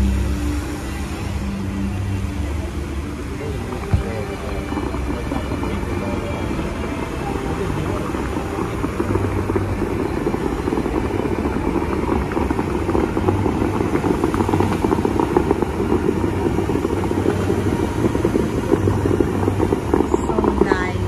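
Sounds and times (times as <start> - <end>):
fountain water rushing and splashing: 0.0 - 21.0
low rumble: 0.0 - 21.0.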